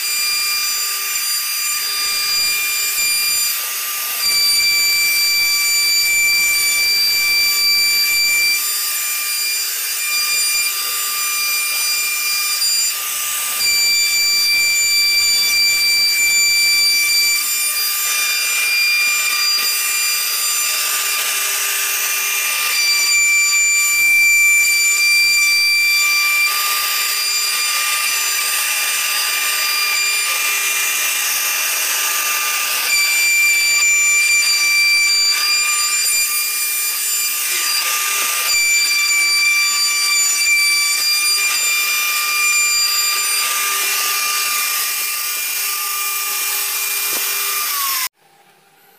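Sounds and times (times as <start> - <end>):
router bit rasping through wood: 0.0 - 48.2
router spindle high whine: 0.0 - 48.9.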